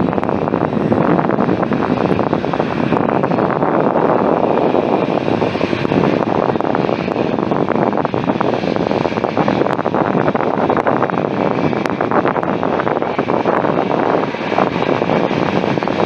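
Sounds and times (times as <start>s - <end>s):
jet engines roaring: 0.0s - 16.0s
wind on microphone: 0.0s - 16.0s.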